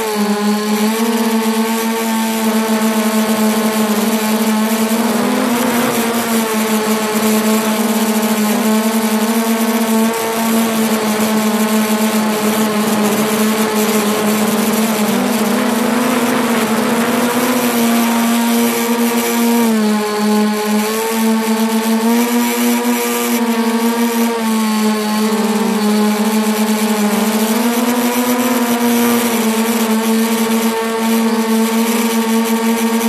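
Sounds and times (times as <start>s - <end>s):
drone propellers buzzing: 0.0s - 33.0s.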